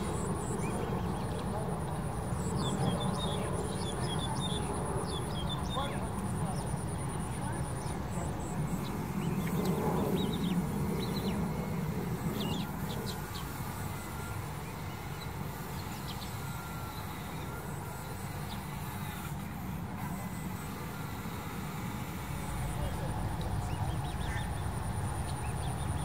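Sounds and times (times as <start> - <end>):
sparrows chirping: 0.0 - 19.2, 22.2 - 26.0.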